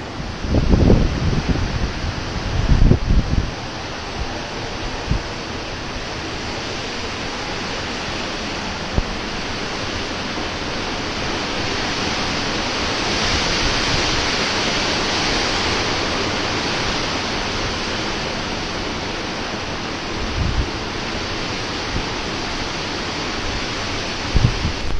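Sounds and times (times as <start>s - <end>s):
hurricane wind: 0.0s - 24.9s
rain: 0.0s - 24.9s
wind gusts buffeting microphone: 0.0s - 24.9s.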